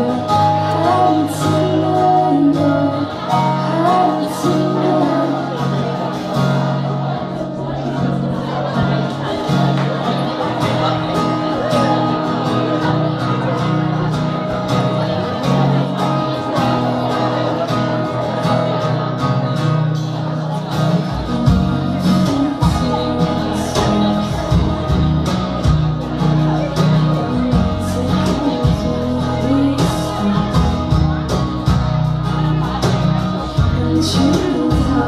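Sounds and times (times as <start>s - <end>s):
bass: 0.0s - 35.0s
strummed acoustic guitars: 0.0s - 35.0s.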